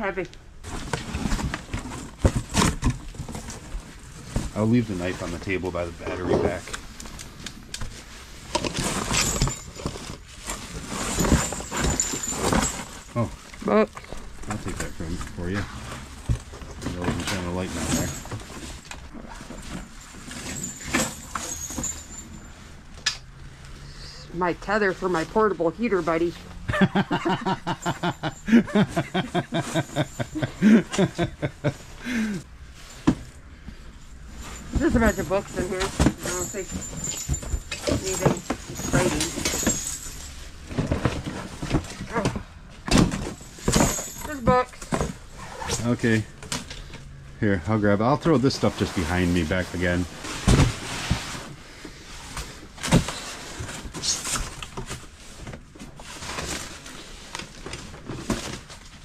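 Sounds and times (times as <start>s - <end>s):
cardboard and paper rustling: 0.6s - 22.7s, 25.1s - 46.9s, 48.3s - 59.0s.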